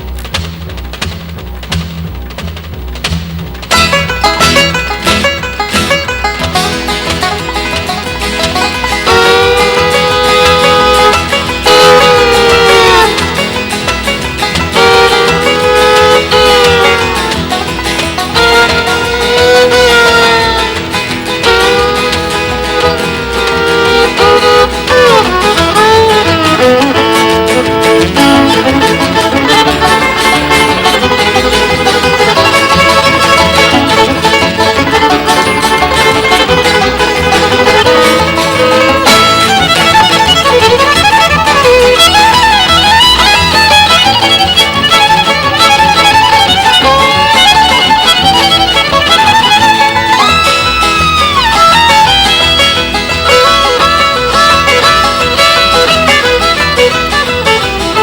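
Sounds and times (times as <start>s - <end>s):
double bass: 0.0s - 58.0s
fiddle playing lead: 0.0s - 58.0s
strummed guitars: 0.0s - 58.0s.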